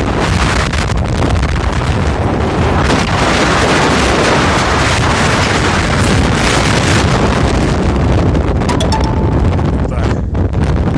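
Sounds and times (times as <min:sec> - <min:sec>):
strong wind buffeting microphone: 0:00.0 - 0:08.7, 0:09.4 - 0:10.9.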